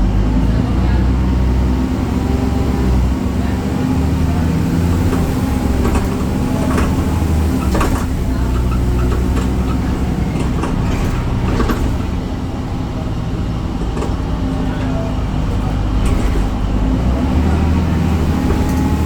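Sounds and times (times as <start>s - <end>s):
bus diesel engine droning: 0.0s - 19.0s
bus body knocks and rattles: 1.6s - 19.0s.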